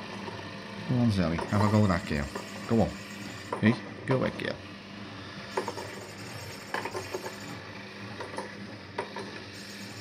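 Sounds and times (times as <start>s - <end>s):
toy motor hum: 0.0s - 3.8s, 5.4s - 10.0s.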